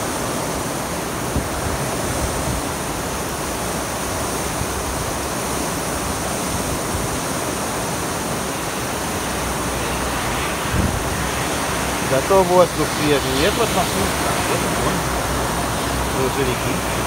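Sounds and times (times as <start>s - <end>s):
heavy rain on wet asphalt: 0.0s - 17.0s.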